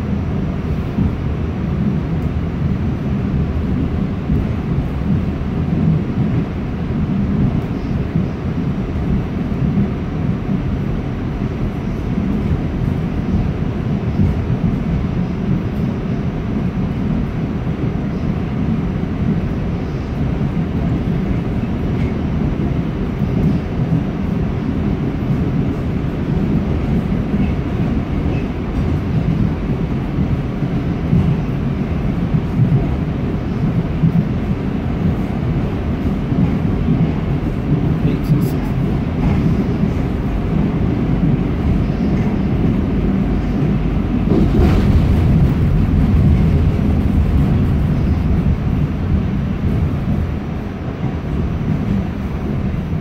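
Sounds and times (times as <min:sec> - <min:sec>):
subway car rumbling on rails: 0:00.0 - 0:53.0.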